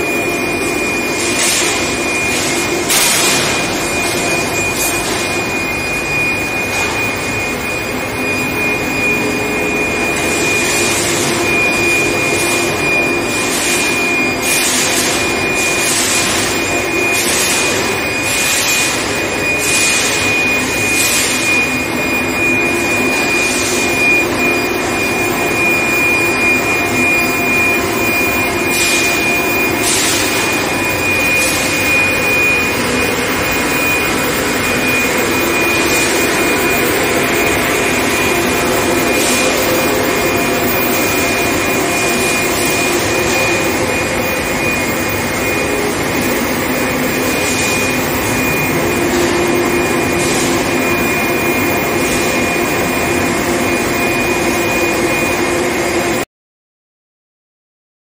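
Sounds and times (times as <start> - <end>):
machine high whine: 0.0 - 56.3.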